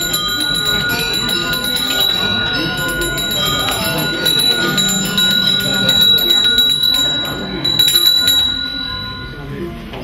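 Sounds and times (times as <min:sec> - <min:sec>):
brass hand bell ringing: 0:00.0 - 0:09.6.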